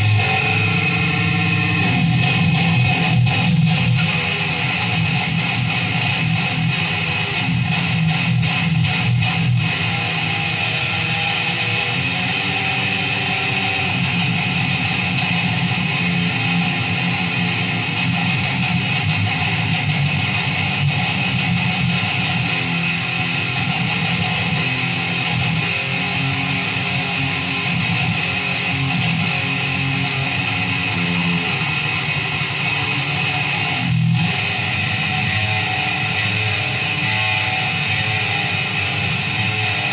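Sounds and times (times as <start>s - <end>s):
guitar playing: 0.0s - 39.9s.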